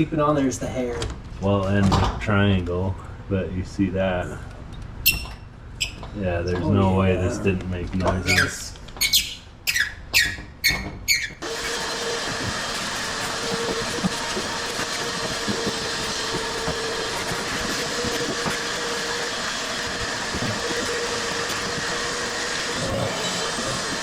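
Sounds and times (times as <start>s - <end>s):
dryer running with mechanical rumble: 0.0s - 24.0s.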